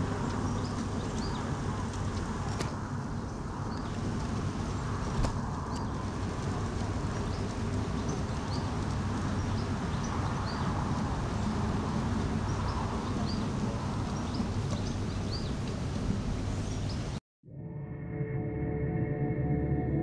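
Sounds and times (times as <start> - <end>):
miniature train rumbling on track: 0.0 - 16.6
small birds chirping: 0.0 - 17.2.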